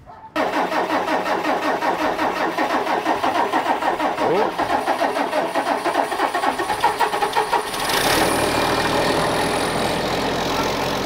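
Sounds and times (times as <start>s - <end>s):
diesel tractor engine starting: 0.0s - 11.0s.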